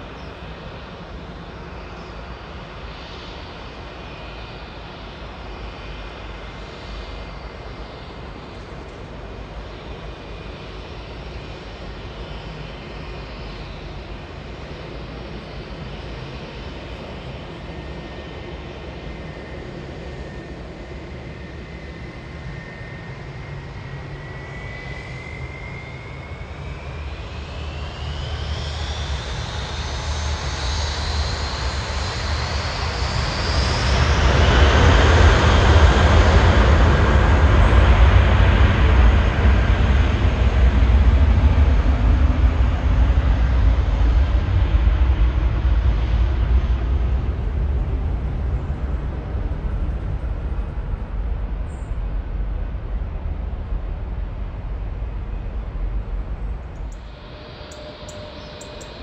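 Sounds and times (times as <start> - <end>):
deep jet rumble: 0.0 - 59.0
jet engines spooling up: 0.4 - 59.0.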